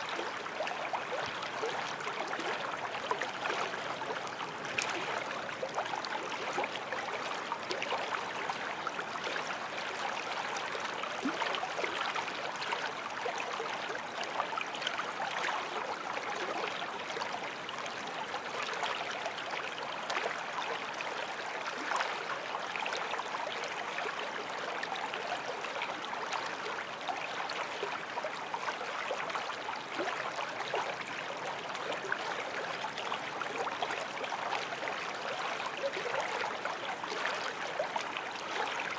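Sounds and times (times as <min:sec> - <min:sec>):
water babbling in a stream: 0:00.0 - 0:38.9.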